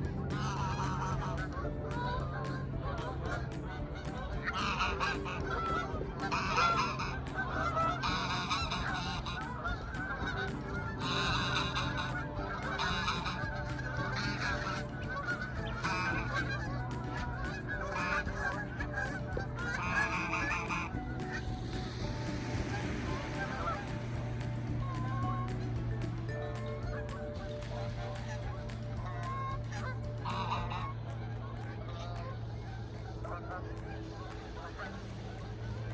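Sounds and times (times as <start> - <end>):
geese honking: 0.0 - 35.9
steady low hum: 0.0 - 35.9.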